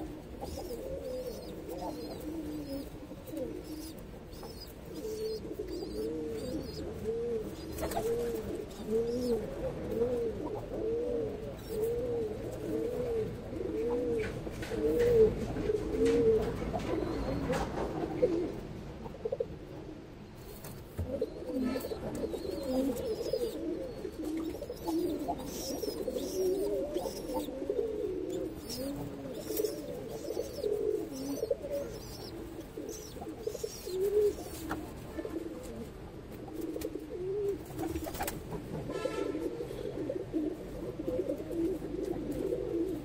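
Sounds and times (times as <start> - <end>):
pigeons cooing: 0.0 - 43.0.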